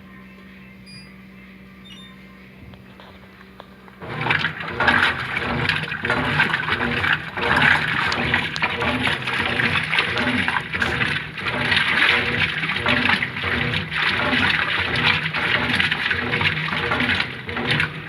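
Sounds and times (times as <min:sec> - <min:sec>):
washing machine agitator motor pulsing: 0:00.0 - 0:18.0
water churning and sloshing: 0:02.9 - 0:18.0.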